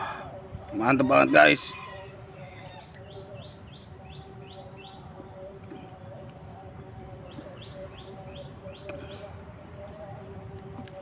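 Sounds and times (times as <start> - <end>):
bird chirping: 1.7 - 11.0.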